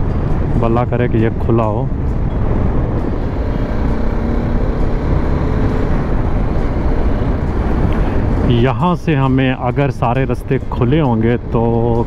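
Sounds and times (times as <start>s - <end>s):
motorcycle engine humming: 0.0s - 12.0s
wind rushing over microphone: 0.0s - 12.0s.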